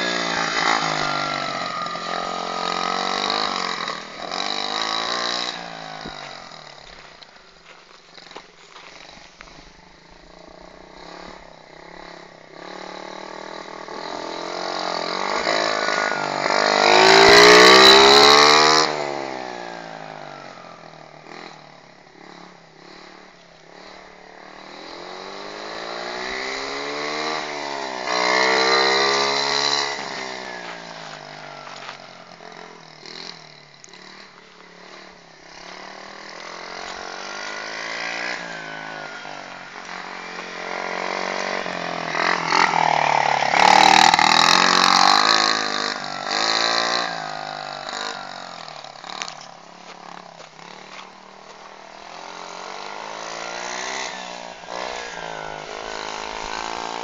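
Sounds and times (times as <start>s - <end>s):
small motorcycle engine revving: 0.0s - 57.0s.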